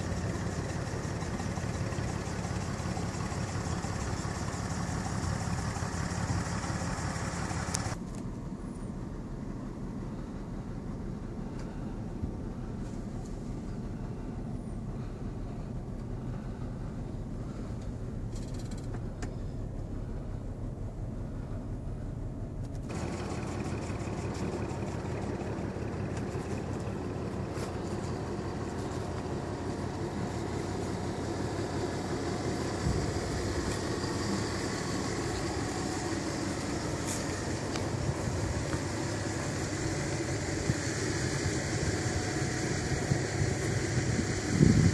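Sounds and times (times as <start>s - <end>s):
hissy outdoor noise: 0.0s - 44.9s
vehicle rumble from inside cab: 0.0s - 44.9s.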